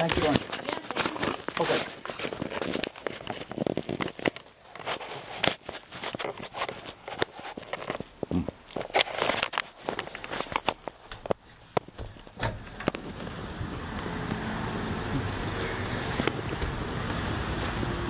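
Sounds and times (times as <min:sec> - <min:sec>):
cloth rustling against microphone: 0:00.0 - 0:14.8
footsteps: 0:00.0 - 0:17.8.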